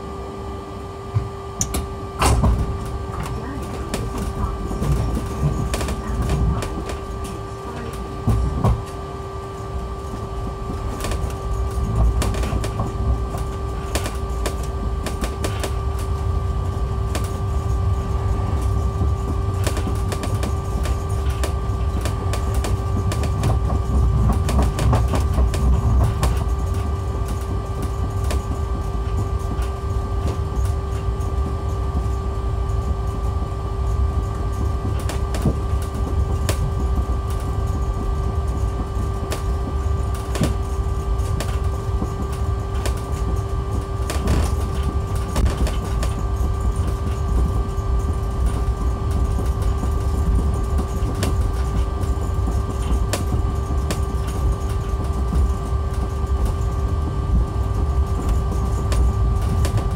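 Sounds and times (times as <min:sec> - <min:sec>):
two-note electric whine: 0:00.0 - 0:59.9.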